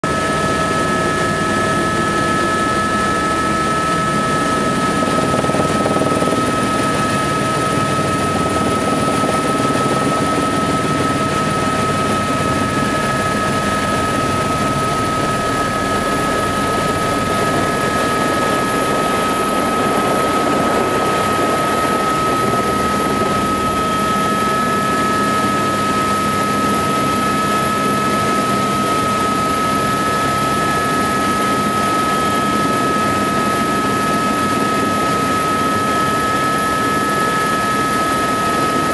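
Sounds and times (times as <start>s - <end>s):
helicopter rotor and engine drone: 0.0s - 38.9s
constant high whine: 0.1s - 38.9s.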